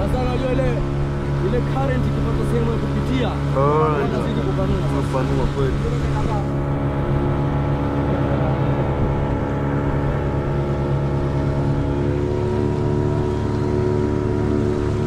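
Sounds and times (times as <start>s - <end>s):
motorboat engine droning: 0.0s - 15.0s
water rushing along hull: 0.0s - 15.0s.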